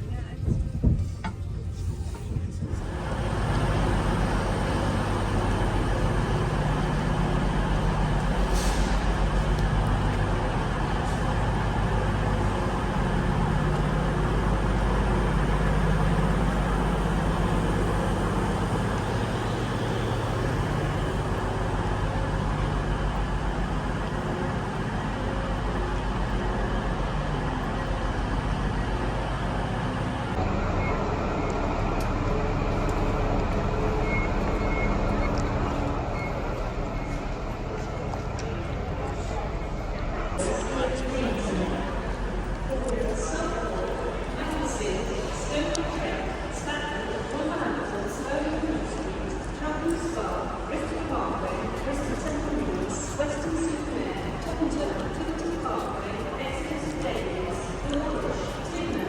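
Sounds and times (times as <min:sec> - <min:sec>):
train rumbling from inside carriage: 0:00.0 - 0:59.0.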